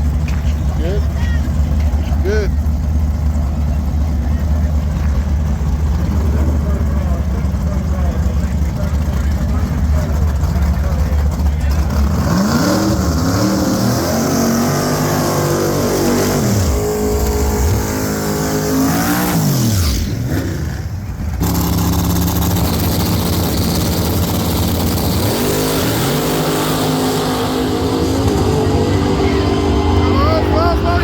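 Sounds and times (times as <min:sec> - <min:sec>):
drag racing engines revving: 0:00.0 - 0:31.0.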